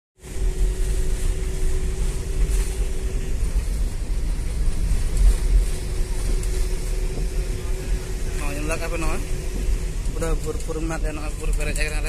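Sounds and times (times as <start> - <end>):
bus engine and road rumble: 0.2 - 12.0
faint constant hum: 0.2 - 12.0.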